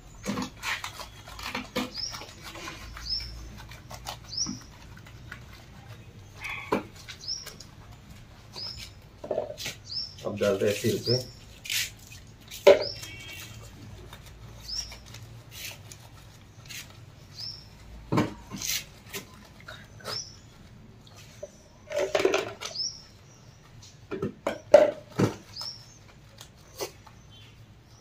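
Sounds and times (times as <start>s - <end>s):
bird chirping: 0.0s - 28.0s.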